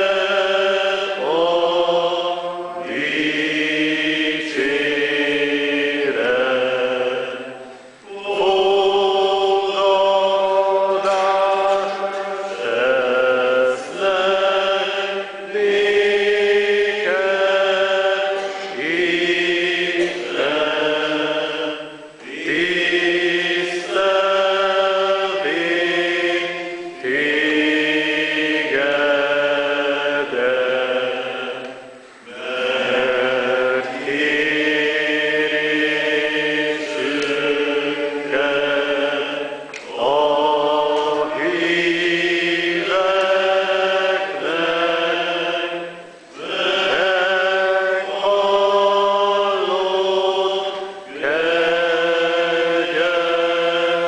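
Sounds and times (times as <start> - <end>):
congregation singing a slow hymn: 0.0 - 54.0.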